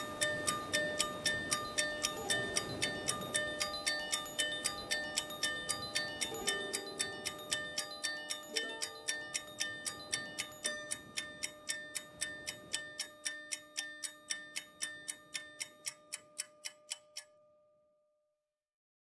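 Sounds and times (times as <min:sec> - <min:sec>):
clock-like ticking in music: 0:00.0 - 0:17.6.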